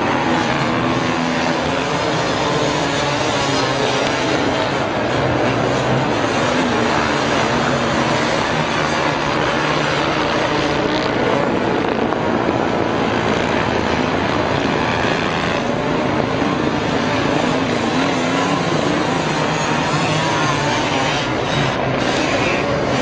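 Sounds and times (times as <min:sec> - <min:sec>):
dirt bike engines running: 0:00.0 - 0:23.0.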